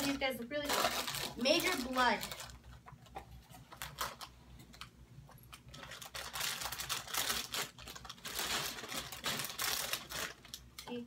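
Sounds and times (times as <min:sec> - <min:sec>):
packaging crinkling and tearing: 0:00.0 - 0:10.7.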